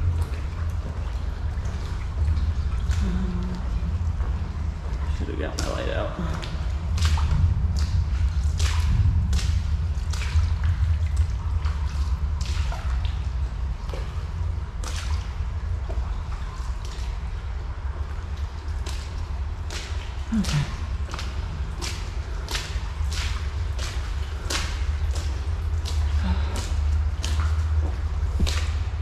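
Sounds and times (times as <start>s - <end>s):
footsteps splashing through water: 0.0s - 29.0s
steady low rumble: 0.0s - 29.0s.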